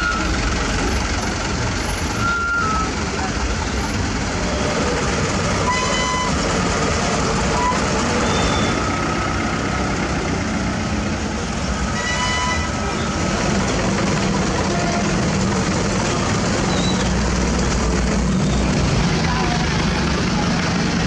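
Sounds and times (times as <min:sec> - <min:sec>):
crowd chatter: 0:00.0 - 0:21.0
diesel truck engines idling: 0:00.0 - 0:21.0.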